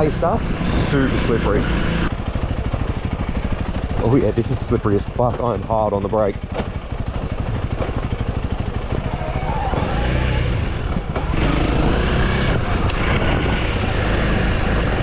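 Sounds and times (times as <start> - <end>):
dirt bike engine at low revs: 0.0 - 15.0.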